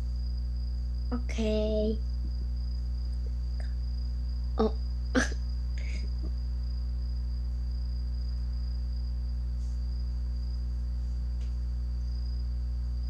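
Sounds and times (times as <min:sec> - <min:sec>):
constant high-pitched tone: 0:00.0 - 0:13.0
steady low hum: 0:00.0 - 0:13.0.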